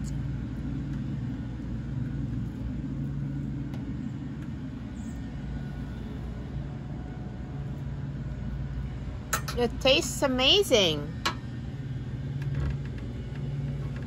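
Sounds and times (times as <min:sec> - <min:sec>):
constant low hum: 0:00.0 - 0:14.0
low background rumble: 0:00.0 - 0:14.0.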